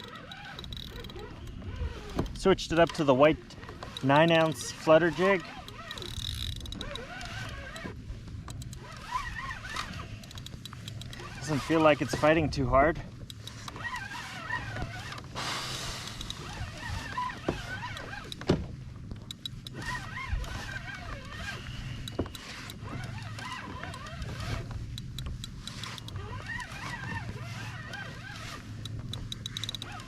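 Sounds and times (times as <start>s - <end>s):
fishing reel whirring: 0.0s - 18.4s, 19.2s - 30.0s.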